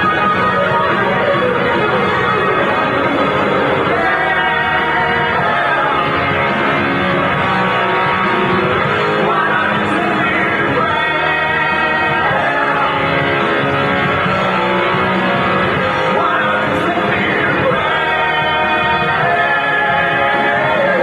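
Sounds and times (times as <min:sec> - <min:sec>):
band playing with sung vocals: 0:00.0 - 0:21.0.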